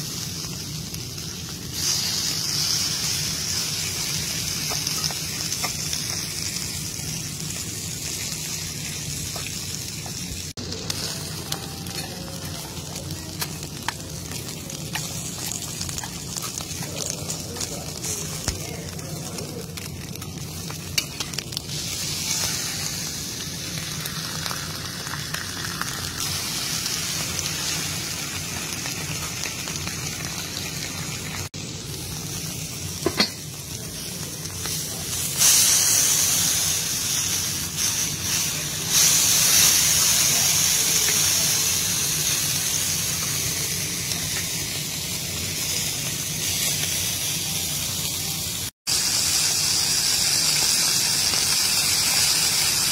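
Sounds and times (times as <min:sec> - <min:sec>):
steaks sizzling on a griddle: 0:00.0 - 0:52.9.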